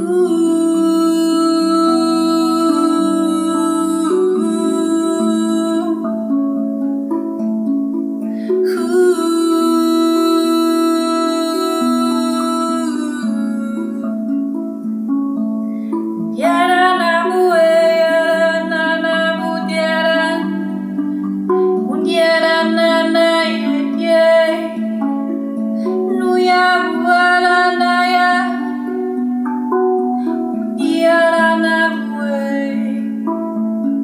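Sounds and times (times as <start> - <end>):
woman singing wordless notes: 0.0 - 7.5, 8.3 - 34.0
steel tongue drum notes: 0.0 - 34.0.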